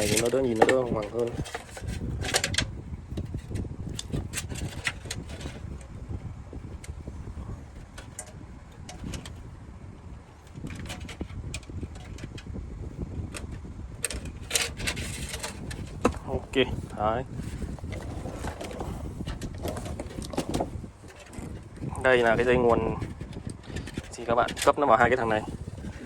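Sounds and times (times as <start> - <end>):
cables and case parts rustling: 0.0 - 26.0
low steady rumble: 0.0 - 26.0.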